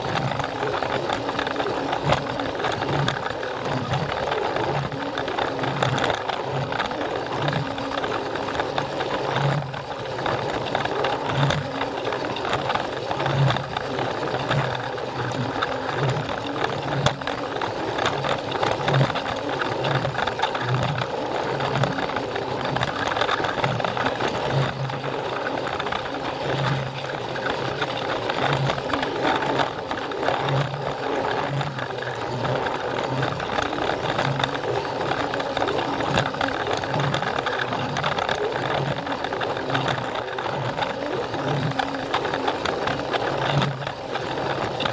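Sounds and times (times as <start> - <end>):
wheels rattling on plastic track: 0.0 - 44.9.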